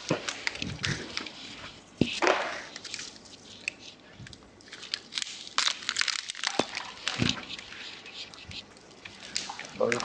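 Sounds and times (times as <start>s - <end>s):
rope crackling and creaking: 0.0s - 1.4s, 2.9s - 10.0s.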